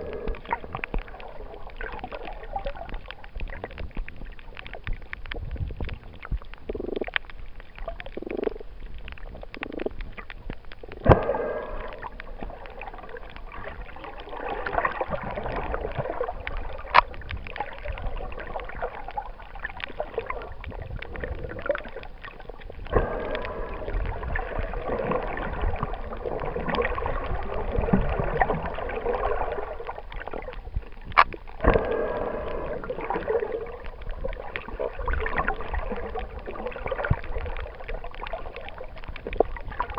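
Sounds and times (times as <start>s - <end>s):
underwater swishing and gurgling: 0.0s - 39.9s.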